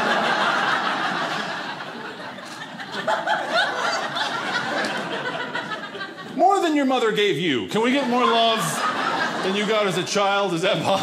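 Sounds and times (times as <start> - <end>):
audience laughing: 0.0 - 6.8, 7.8 - 11.0.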